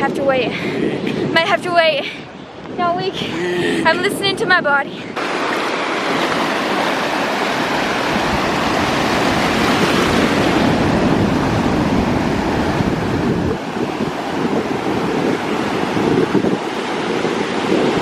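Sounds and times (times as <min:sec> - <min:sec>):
wind buffeting microphone: 0:00.0 - 0:05.3, 0:06.1 - 0:18.0
ocean surf washing ashore: 0:00.0 - 0:18.0.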